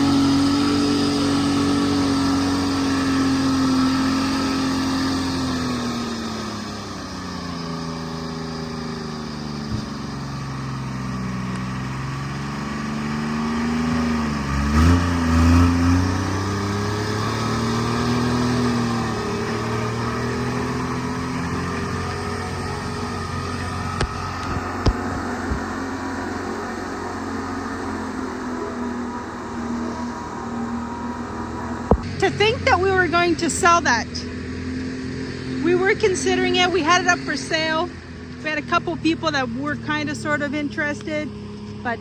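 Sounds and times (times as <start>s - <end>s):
engine revving: 0.0s - 42.0s
forwarder engine running: 0.0s - 42.0s.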